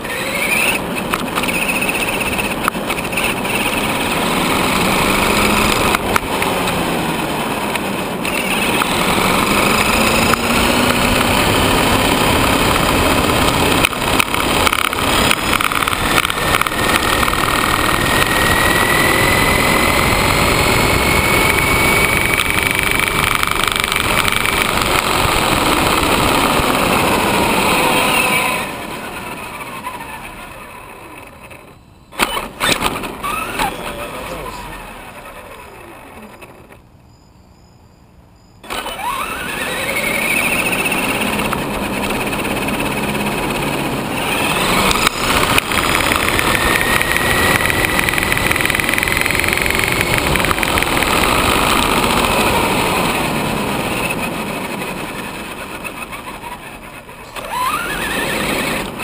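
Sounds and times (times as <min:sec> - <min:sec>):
tyre and wind noise: 0:00.0 - 0:30.4, 0:38.6 - 0:59.0
electric motor whine: 0:00.0 - 0:36.8, 0:38.6 - 0:59.0.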